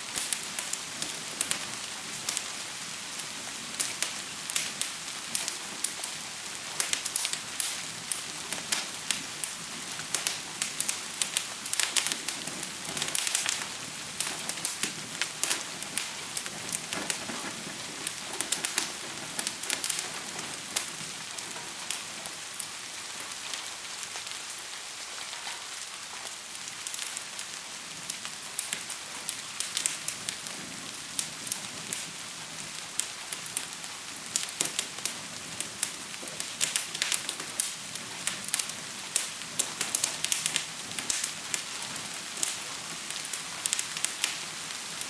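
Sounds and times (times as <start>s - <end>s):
fire crackling and popping: 0.0s - 45.0s
rain hiss: 0.0s - 45.0s.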